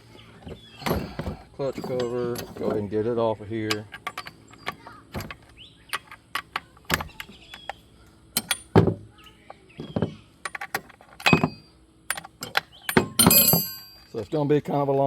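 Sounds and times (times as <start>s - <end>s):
hand tools and metal parts clicking: 0.0s - 14.9s.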